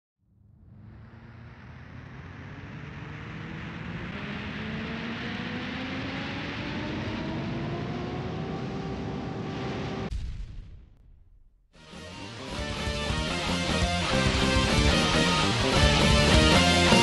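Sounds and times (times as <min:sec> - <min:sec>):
engine whine rising in pitch: 0:00.2 - 0:10.1, 0:11.9 - 0:17.0.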